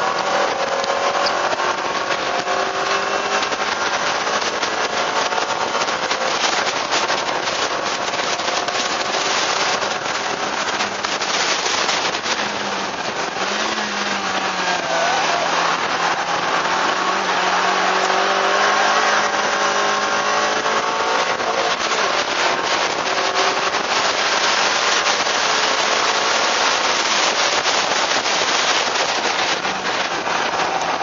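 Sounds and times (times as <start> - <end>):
car engine revving: 0.0 - 31.0
dense crackling: 0.0 - 31.0
wind noise rushing: 0.0 - 31.0.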